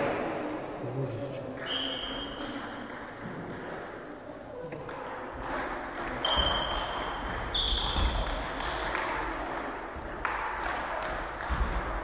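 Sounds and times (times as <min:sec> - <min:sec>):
low hall noise: 0:00.0 - 0:12.0
table tennis ball pings: 0:01.6 - 0:04.0, 0:04.8 - 0:12.0.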